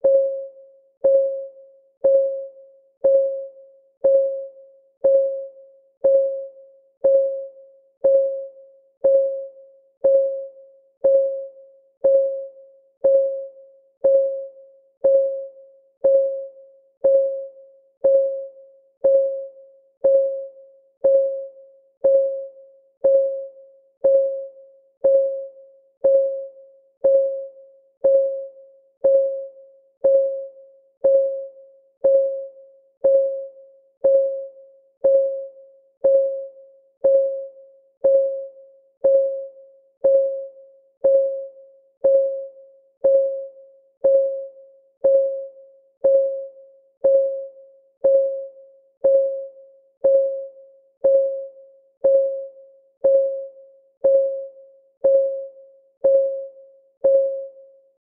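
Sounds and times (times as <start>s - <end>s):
timer clock ticking: 1.0s - 57.6s.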